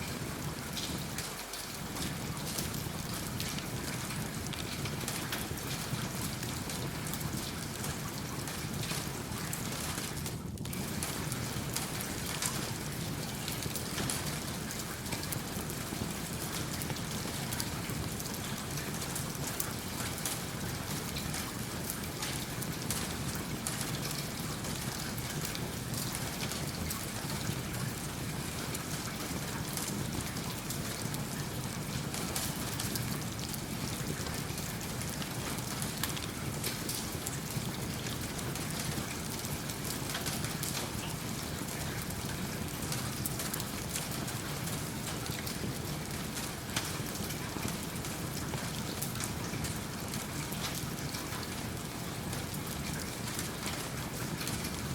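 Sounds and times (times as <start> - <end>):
rain falling: 0.0 - 54.9
wood fire crackling: 0.4 - 54.9.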